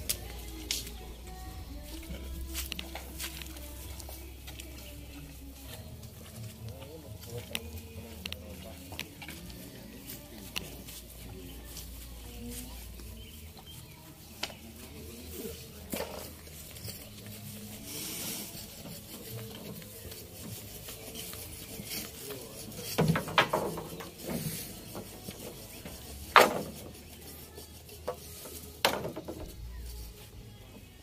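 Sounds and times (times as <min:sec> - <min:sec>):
wood scraping and rubbing: 0:00.0 - 0:30.3.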